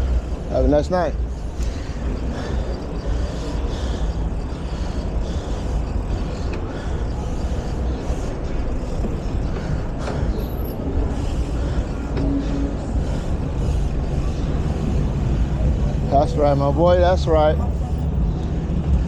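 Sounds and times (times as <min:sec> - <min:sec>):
road and traffic rumble: 0:00.0 - 0:19.0.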